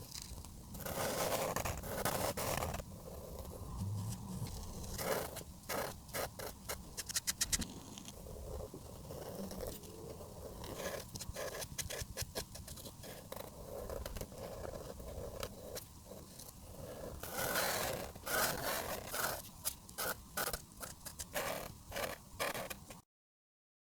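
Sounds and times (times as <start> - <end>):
marker scraping across paper: 0.7 - 22.9.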